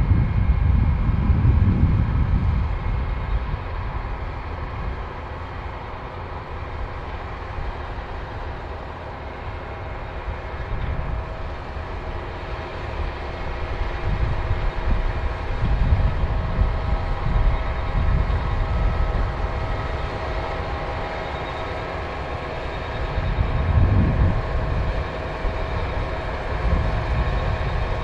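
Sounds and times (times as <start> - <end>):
combine harvester drone: 0.0 - 28.0
machine whining tones: 2.2 - 28.0.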